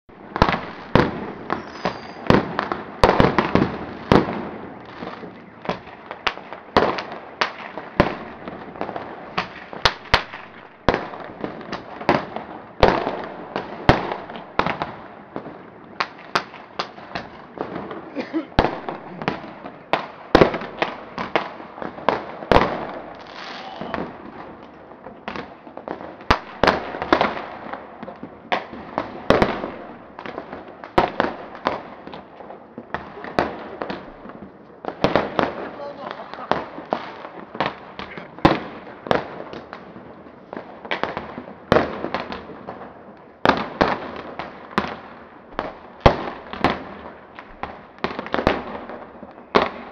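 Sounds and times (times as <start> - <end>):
fireworks and firecrackers banging: 0.1 - 49.9.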